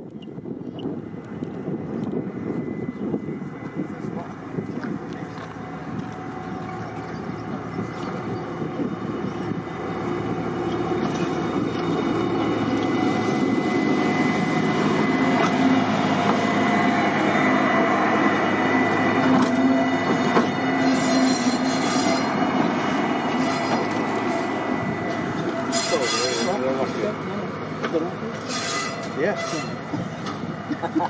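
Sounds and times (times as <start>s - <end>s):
steady high whine: 0.0s - 27.9s
diesel locomotive engine: 0.0s - 31.0s.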